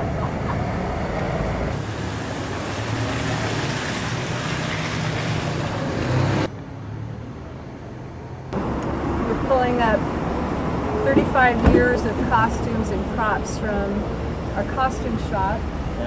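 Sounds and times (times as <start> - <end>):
vehicle road and engine noise: 0.0 - 16.0.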